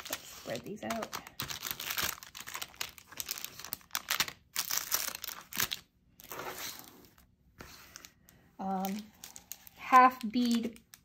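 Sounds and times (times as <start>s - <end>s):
plastic bags crinkling: 0.0s - 7.2s, 7.9s - 11.0s.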